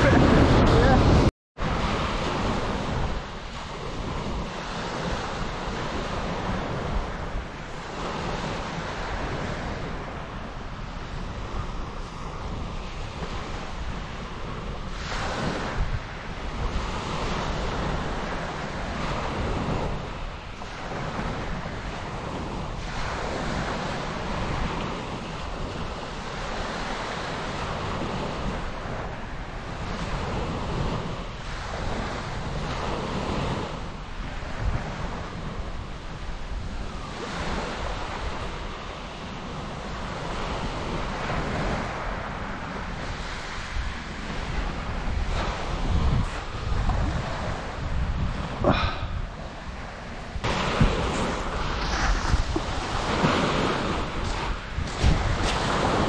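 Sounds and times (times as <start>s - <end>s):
waves washing on shingle: 0.0s - 56.0s
wind on microphone: 0.0s - 56.0s.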